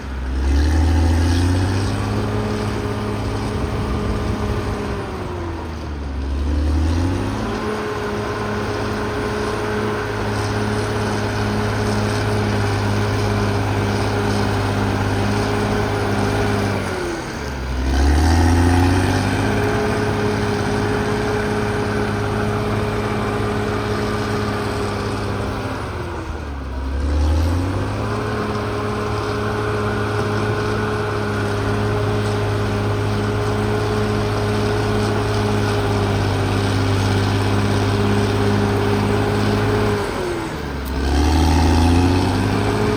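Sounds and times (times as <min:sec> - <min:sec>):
bulldozer diesel engine revving: 0:00.0 - 0:42.9.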